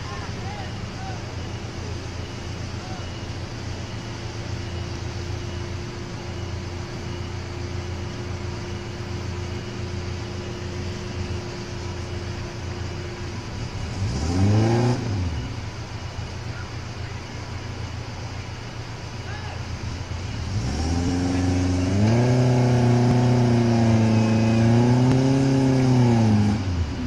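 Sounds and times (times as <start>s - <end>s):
four-wheel drive engine running: 0.0s - 27.0s.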